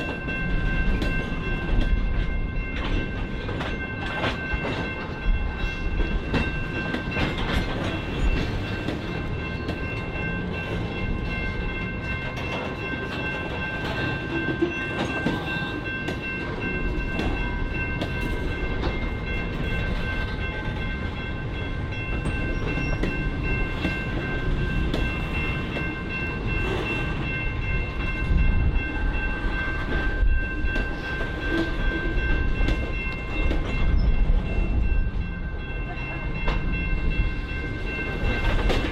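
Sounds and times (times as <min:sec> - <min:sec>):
train cars rumbling past: 0:00.0 - 0:38.9
wheels clicking over rail joints: 0:00.0 - 0:38.9.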